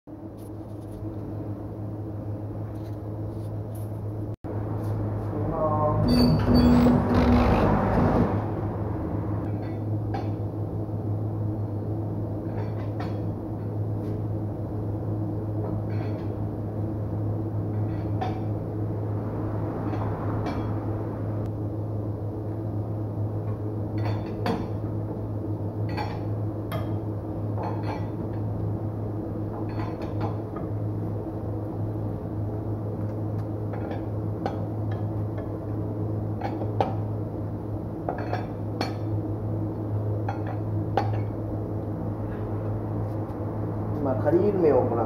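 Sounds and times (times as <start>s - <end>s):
low hum: 0.1s - 45.0s.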